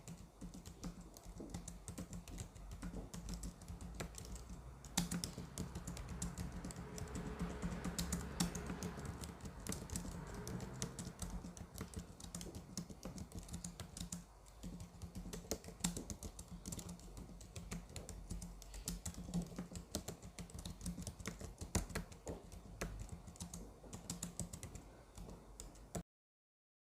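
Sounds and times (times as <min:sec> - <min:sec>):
computer keyboard typing: 0:00.0 - 0:26.0.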